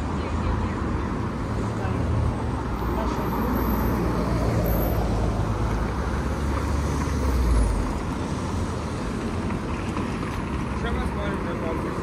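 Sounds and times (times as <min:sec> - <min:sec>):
passing vehicle engine rumble: 0:00.0 - 0:12.0
steady traffic din: 0:00.0 - 0:12.0.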